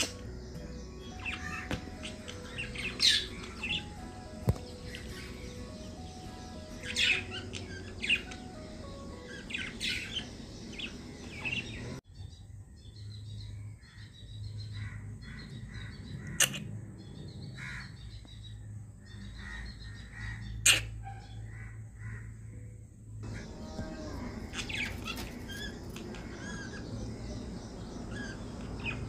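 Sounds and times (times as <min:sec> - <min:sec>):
background music: 0:00.0 - 0:12.0, 0:17.3 - 0:29.0
birds chirping: 0:00.0 - 0:29.0.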